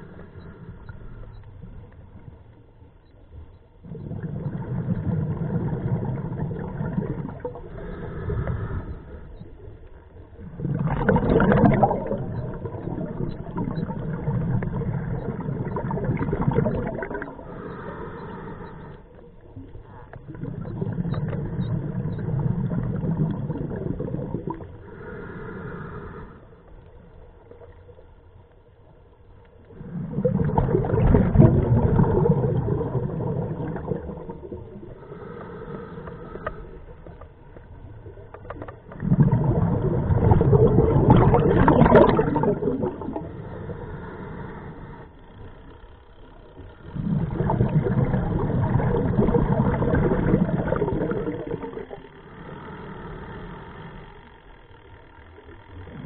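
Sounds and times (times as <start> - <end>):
exhaled bubbles underwater: 0.0 - 56.0.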